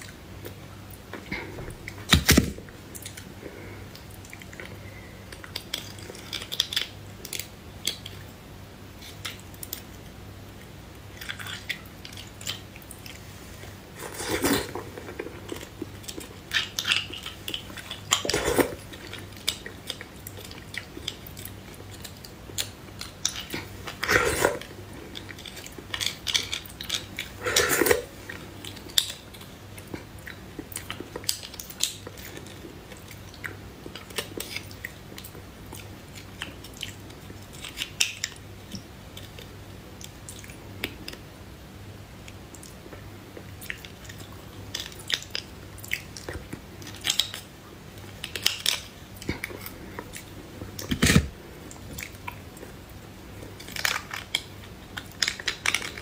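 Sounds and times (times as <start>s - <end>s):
close chewing and biting: 3.9s - 8.3s, 10.6s - 41.2s, 42.2s - 56.0s.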